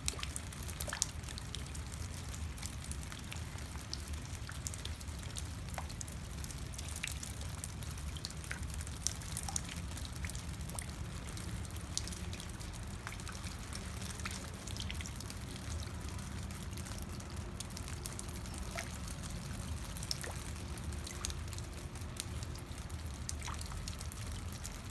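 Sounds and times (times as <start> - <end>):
rain dripping and trickling: 0.0 - 24.9.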